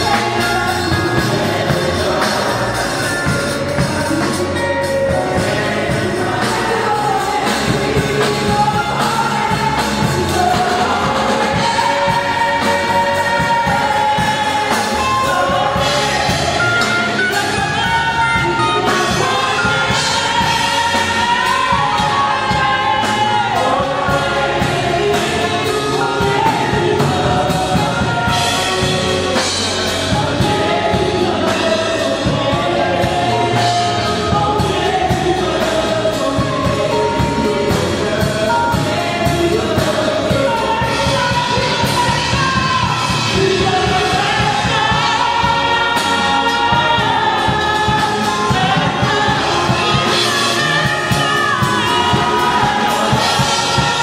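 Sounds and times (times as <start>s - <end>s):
band with drum kit: 0.0s - 54.0s
choir singing: 0.0s - 54.0s
woman singing lead: 0.0s - 54.0s.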